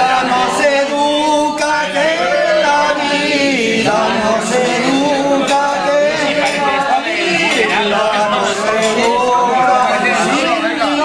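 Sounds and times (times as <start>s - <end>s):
group singing together: 0.0s - 11.0s.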